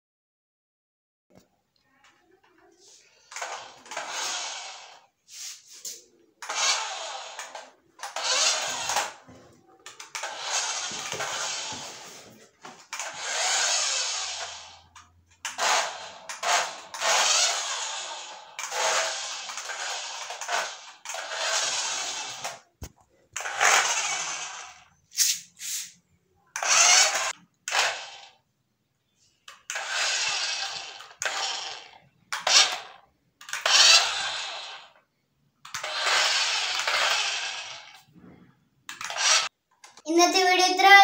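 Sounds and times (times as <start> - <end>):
toy car motor whirring: 2.8 - 22.7, 23.4 - 28.4, 29.4 - 38.1, 38.9 - 40.1.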